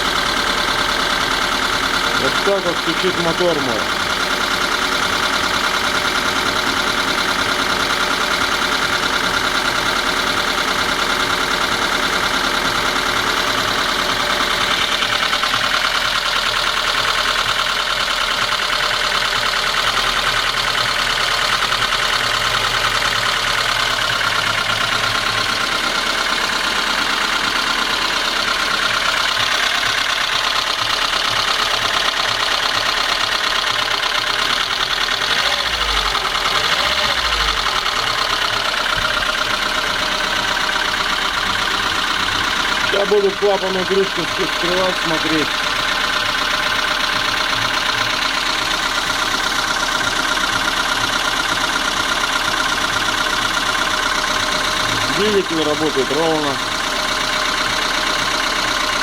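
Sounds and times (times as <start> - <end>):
car engine idling: 0.0 - 59.0
rapid knock inside engine: 0.0 - 59.0.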